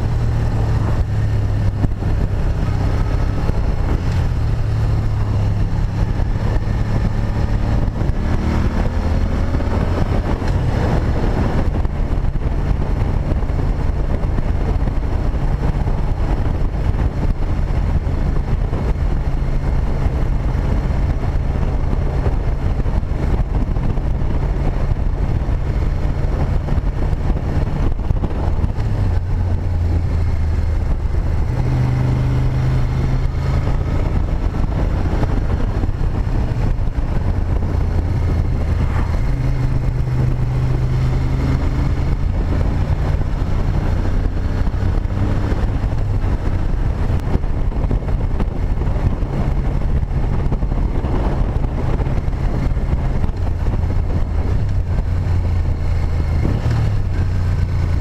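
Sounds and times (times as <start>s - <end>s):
motorcycle engine: 0.0s - 58.0s
wind noise: 0.0s - 58.0s.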